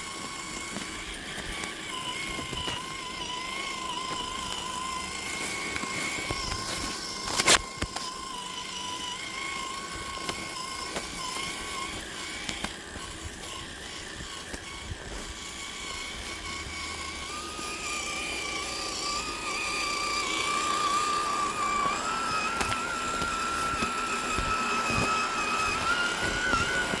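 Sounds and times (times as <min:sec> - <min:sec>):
electric motor and gears whining: 0:00.0 - 0:27.0.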